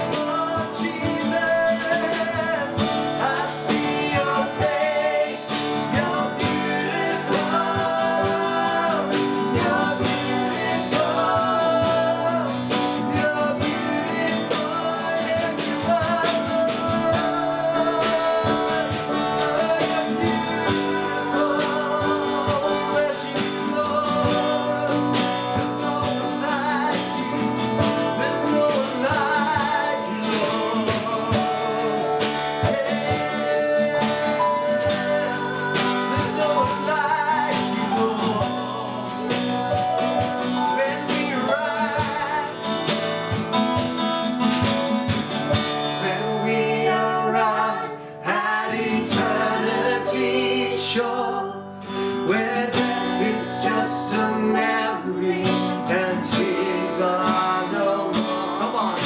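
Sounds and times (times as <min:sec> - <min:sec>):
person singing: 0:00.0 - 0:43.9, 0:45.5 - 0:59.0
acoustic guitar: 0:00.0 - 0:59.0.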